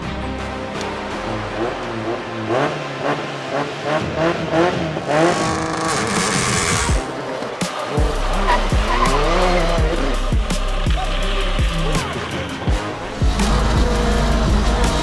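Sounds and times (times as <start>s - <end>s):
rally car engine revving: 1.0s - 15.0s.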